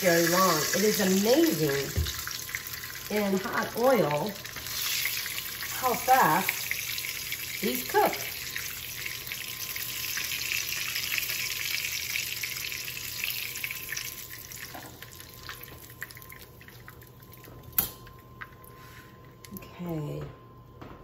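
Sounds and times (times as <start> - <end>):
chicken frying in hot oil: 0.0 - 17.9.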